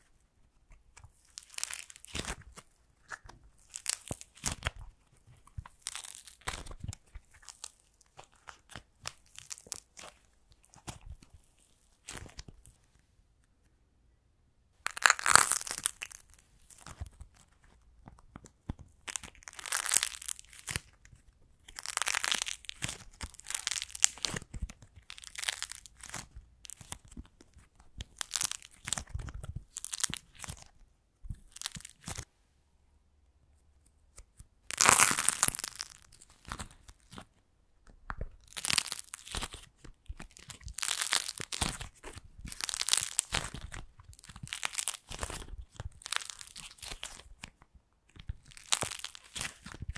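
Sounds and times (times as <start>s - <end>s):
clay crust cracking and tearing: 0.0s - 12.8s, 14.8s - 32.3s, 33.8s - 49.9s.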